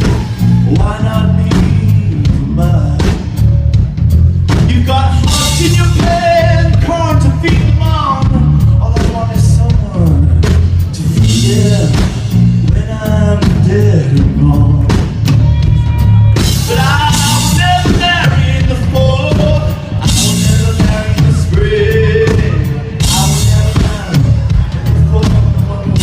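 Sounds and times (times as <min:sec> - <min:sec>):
live band music: 0:00.0 - 0:26.0.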